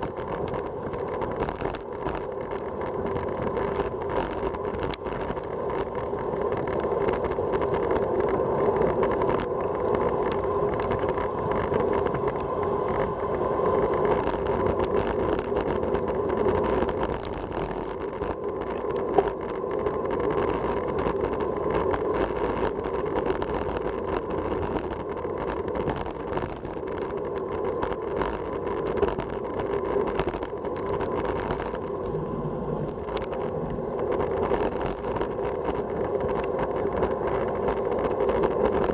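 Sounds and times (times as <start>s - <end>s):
tyre noise on asphalt: 0.0s - 38.9s
wind rushing over microphone: 0.0s - 38.9s.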